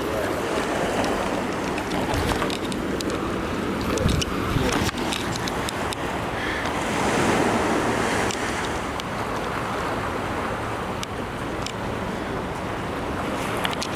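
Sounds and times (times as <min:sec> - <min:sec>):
wind buffeting microphone: 0:00.0 - 0:11.4
surf washing against rocks: 0:00.0 - 0:13.9.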